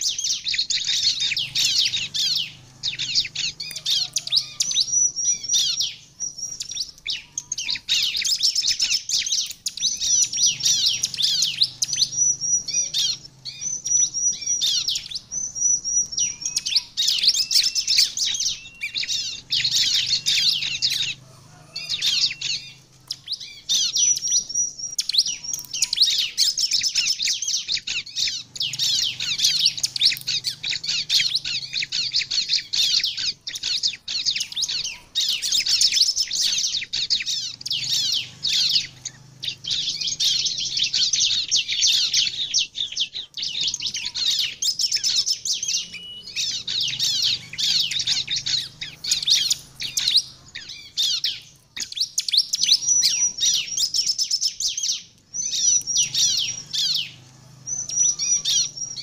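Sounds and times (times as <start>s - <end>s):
bird singing high-pitched chatter: 0.0s - 59.0s.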